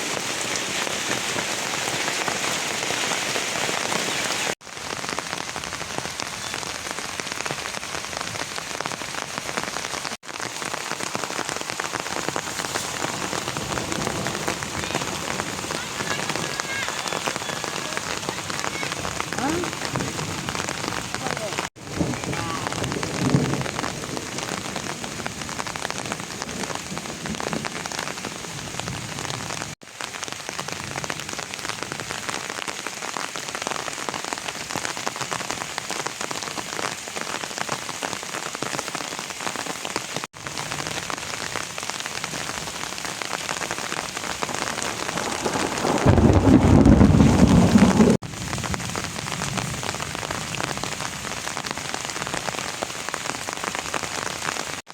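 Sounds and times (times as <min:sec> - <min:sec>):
louder deeper rain burst: 0:00.0 - 0:54.9
steady rain falling: 0:00.0 - 0:54.9.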